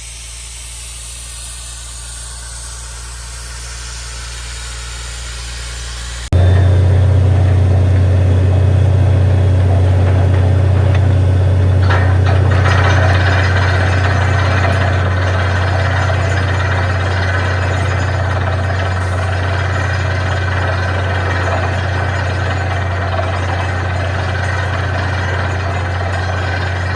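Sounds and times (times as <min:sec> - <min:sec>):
drilling rig engine humming: 0:01.1 - 0:26.9.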